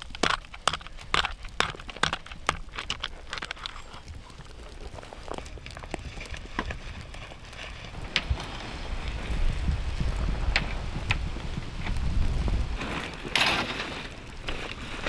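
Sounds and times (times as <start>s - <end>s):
sharp crackles and snaps: 0.0s - 15.0s
wind buffeting microphone: 0.0s - 15.0s.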